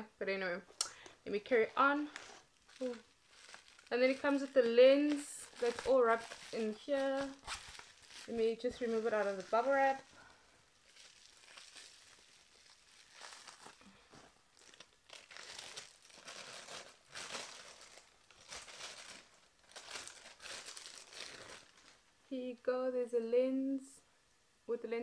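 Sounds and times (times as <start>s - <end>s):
bubble wrap crinkling: 1.3s - 22.1s.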